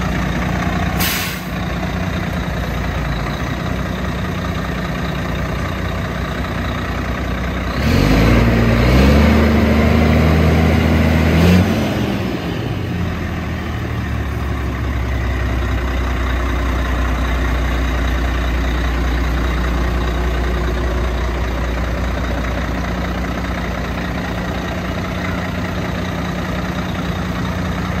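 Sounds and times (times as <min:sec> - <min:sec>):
diesel truck engine idling and revving: 0:00.0 - 0:28.0.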